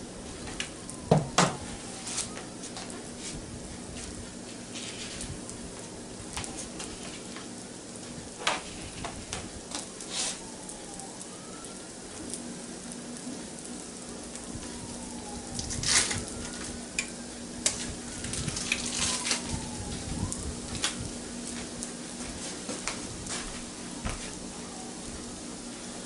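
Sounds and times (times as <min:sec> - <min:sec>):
oil popping and crackling: 0:00.0 - 0:26.0
egg sizzling in a pan: 0:00.2 - 0:24.5.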